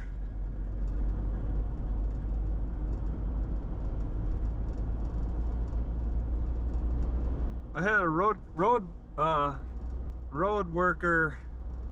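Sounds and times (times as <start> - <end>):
car cabin road and engine rumble: 0.0 - 11.9.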